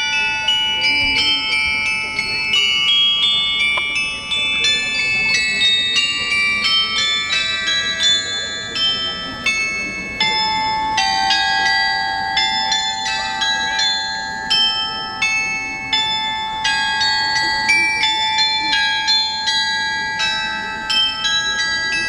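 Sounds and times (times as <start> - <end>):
tuned bells melody: 0.0 - 22.0.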